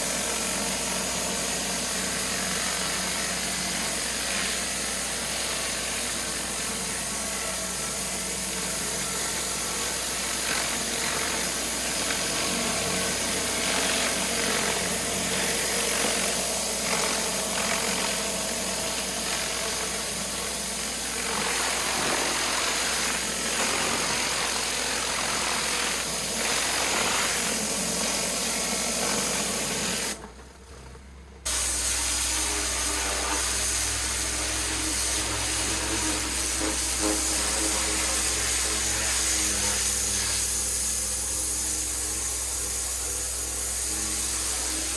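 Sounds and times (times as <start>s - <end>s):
water jet hissing on stone: 0.0s - 30.2s, 31.5s - 44.9s
pressure washer engine hum: 0.0s - 44.9s.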